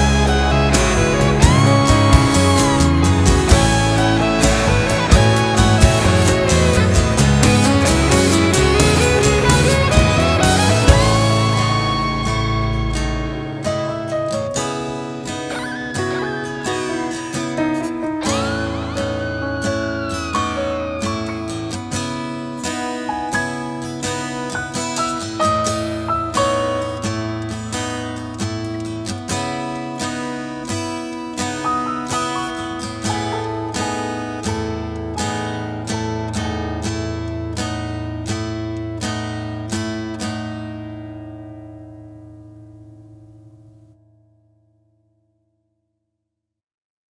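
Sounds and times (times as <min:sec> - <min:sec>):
acoustic guitar plucking: 0:00.0 - 0:44.5.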